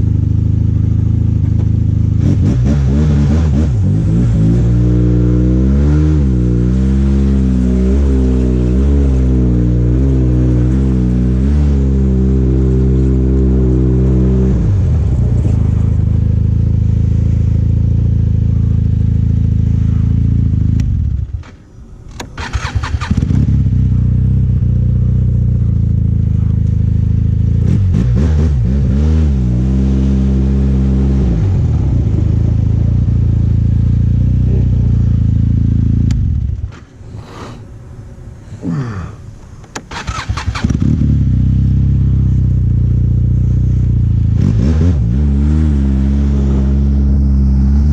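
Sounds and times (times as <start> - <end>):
snowmobile engine running: 0.0 - 21.2, 23.1 - 36.2, 40.6 - 47.9.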